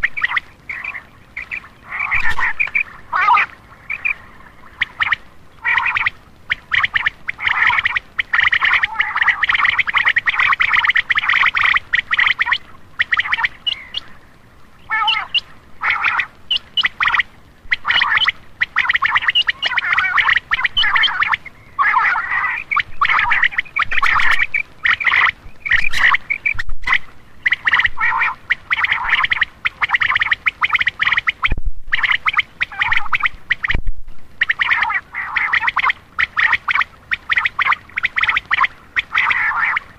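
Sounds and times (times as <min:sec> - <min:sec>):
quail calls rattling chatter: 0:00.0 - 0:14.2, 0:14.8 - 0:33.8, 0:34.4 - 0:39.9.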